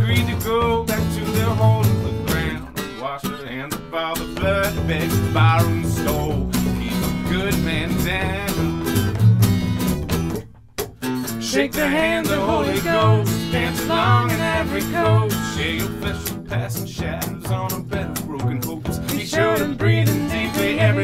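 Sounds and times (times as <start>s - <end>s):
percussive beat: 0.0s - 3.0s, 4.1s - 21.0s
man singing: 0.0s - 9.0s, 11.4s - 21.0s
strummed acoustic guitar: 0.0s - 21.0s
upright bass: 0.0s - 21.0s.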